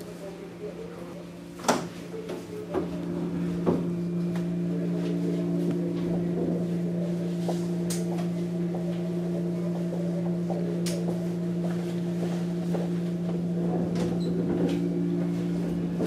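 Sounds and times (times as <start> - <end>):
electric train electrical hum: 0.0 - 16.0.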